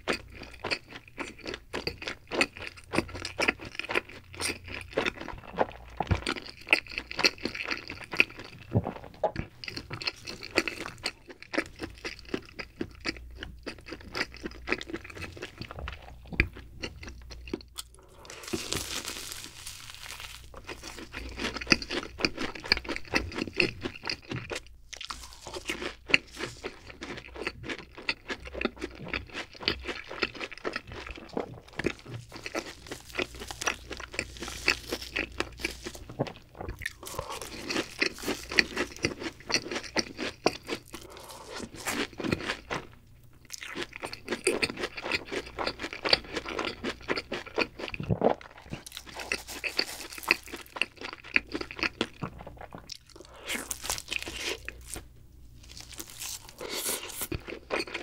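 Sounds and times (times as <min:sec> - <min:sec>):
close chewing crunches: 0:00.0 - 0:58.0.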